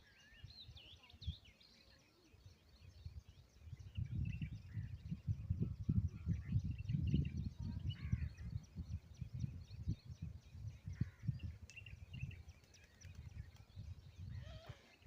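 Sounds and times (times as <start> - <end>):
wind buffeting microphone: 2.4 - 15.0
low bird calls: 2.9 - 15.0.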